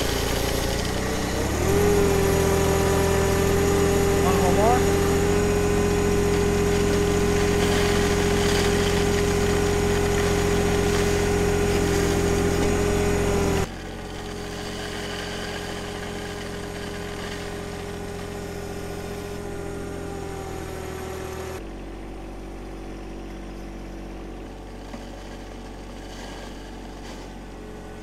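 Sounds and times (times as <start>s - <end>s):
diesel tractor engine idling: 0.0s - 28.0s.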